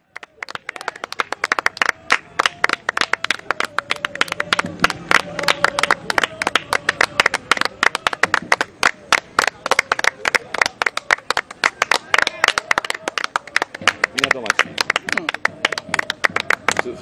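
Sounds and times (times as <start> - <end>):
crowd clapping: 0.0 - 17.0.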